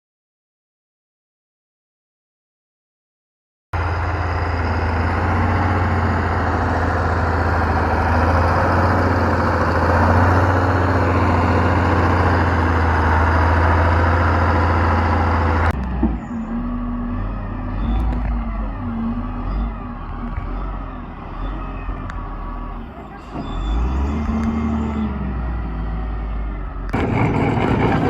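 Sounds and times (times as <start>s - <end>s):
construction machinery engine hum: 3.8s - 28.0s.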